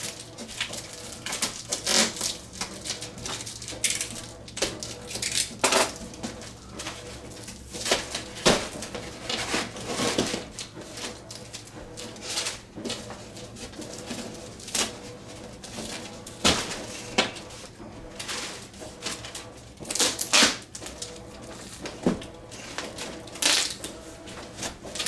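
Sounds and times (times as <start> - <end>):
packaging rustling and crinkling: 0.0 - 25.0.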